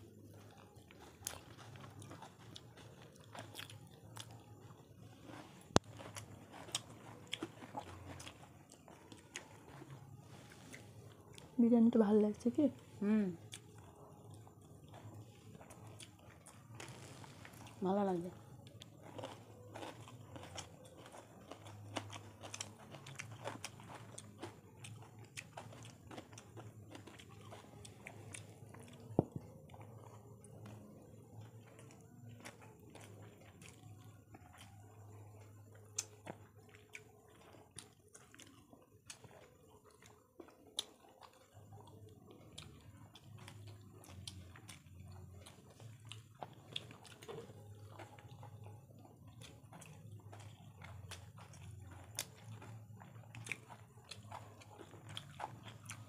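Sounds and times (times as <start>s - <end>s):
faint low hum: 0.0s - 56.0s
people chewing and biting: 0.0s - 56.0s.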